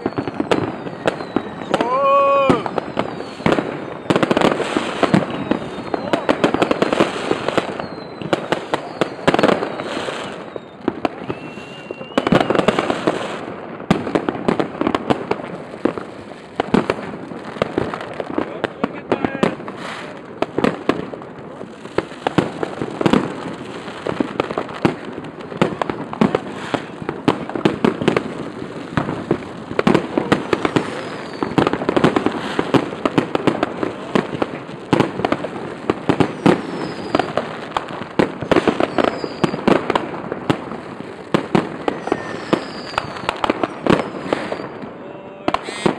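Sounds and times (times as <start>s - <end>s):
fireworks bangs and crackles: 0.0s - 45.9s
fireworks falling whistles: 0.0s - 45.9s.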